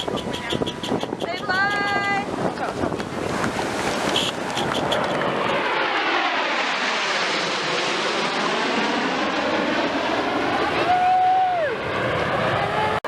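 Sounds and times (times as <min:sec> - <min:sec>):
jet engine flying past: 0:00.0 - 0:13.0.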